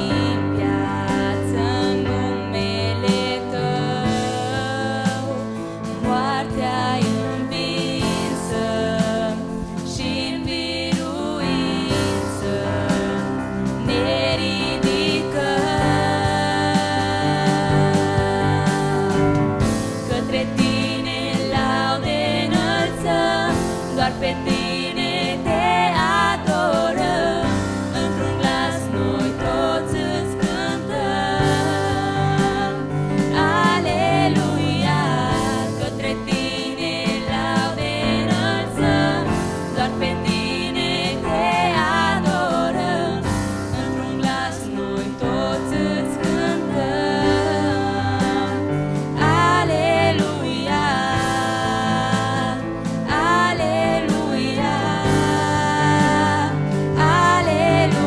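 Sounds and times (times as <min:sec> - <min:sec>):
held keyboard chords: 0:00.0 - 0:58.0
women singing with vibrato: 0:00.0 - 0:58.0.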